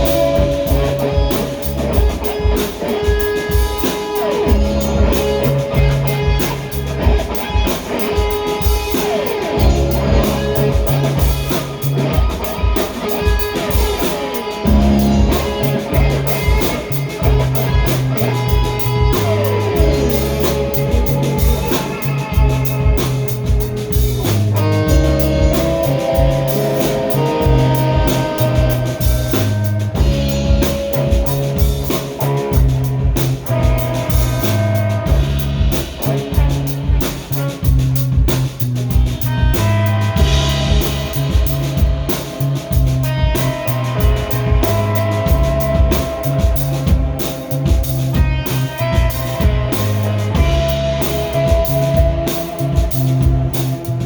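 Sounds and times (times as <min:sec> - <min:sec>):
bass notes: 0:00.0 - 0:54.0
drum kit beat: 0:00.0 - 0:54.0
guitar with sliding notes: 0:00.0 - 0:54.0.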